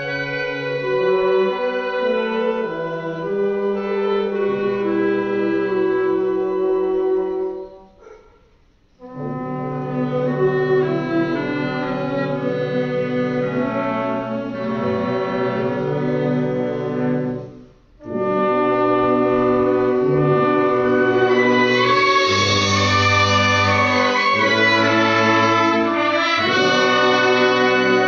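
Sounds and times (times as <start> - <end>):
wind band playing sustained chords: 0.0 - 7.9, 8.9 - 28.0.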